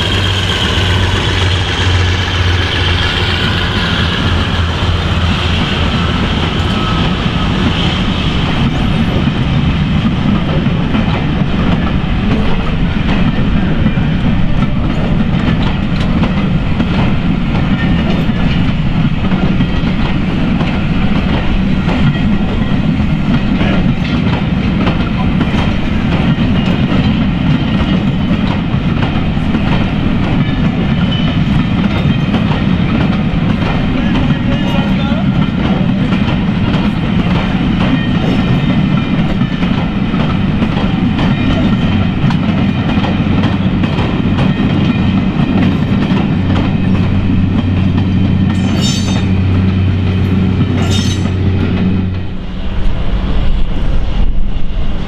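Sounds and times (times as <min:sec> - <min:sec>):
train wheels clicking over rail joints: 0:00.0 - 0:53.0
diesel locomotive drone: 0:00.0 - 0:55.0.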